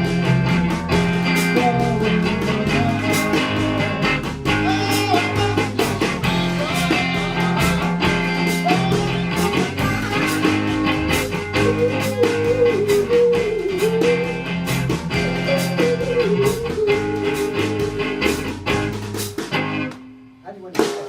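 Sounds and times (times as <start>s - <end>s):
drum and cymbal hits: 0.0s - 20.1s, 20.7s - 21.0s
band playing: 0.0s - 21.0s.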